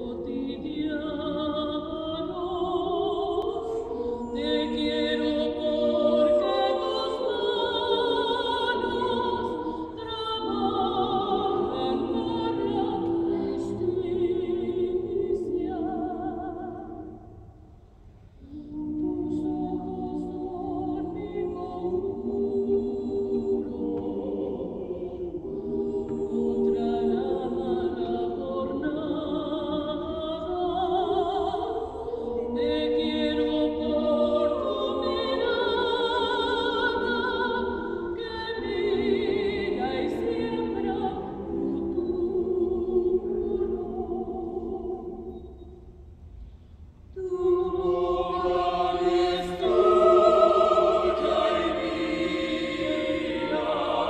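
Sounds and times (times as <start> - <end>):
vocal ensemble singing chords: 0.0 - 46.2, 47.1 - 54.0.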